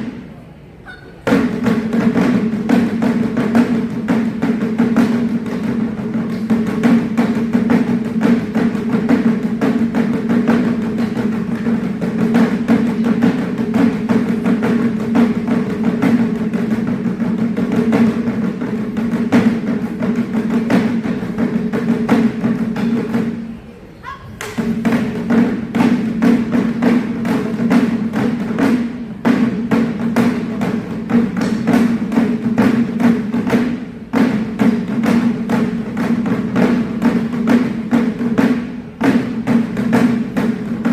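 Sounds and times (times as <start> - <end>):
taiko drums in fast rhythm: 1.1 - 23.4, 24.0 - 40.9.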